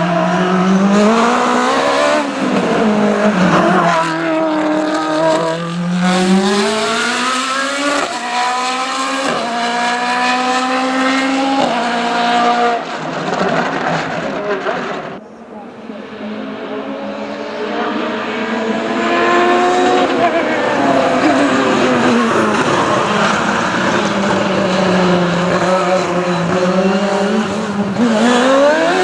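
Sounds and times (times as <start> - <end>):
race car engine accelerating: 0.0 - 15.2, 16.0 - 29.0.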